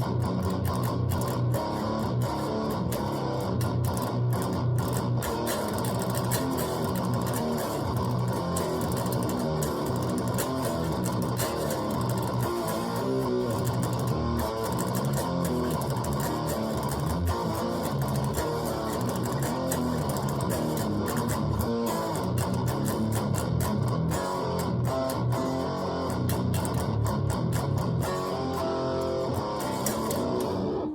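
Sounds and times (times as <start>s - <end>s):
guitar plucked notes: 0.0s - 30.9s.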